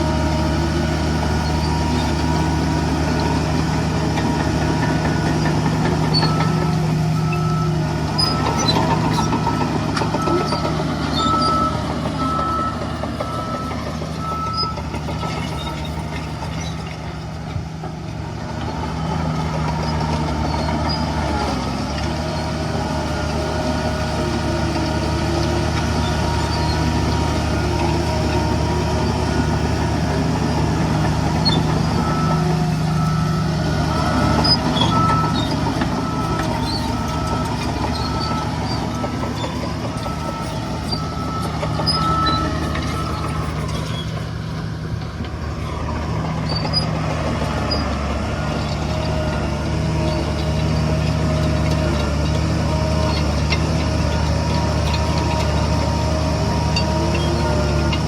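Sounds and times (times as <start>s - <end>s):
diesel machinery engines running: 0.0s - 58.0s.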